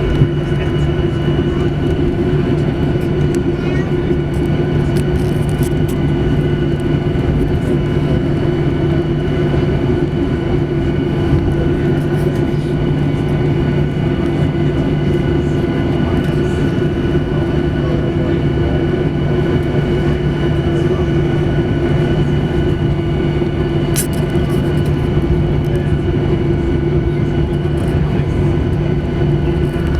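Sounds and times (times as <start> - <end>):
jet engines idling: 0.0 - 29.9.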